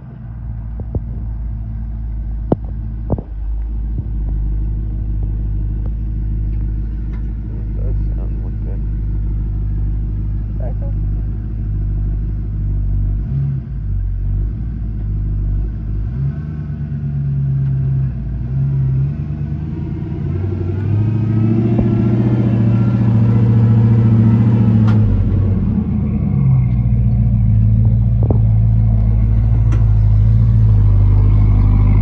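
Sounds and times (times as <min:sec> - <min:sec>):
truck engine running at low speed: 0:00.0 - 0:32.0.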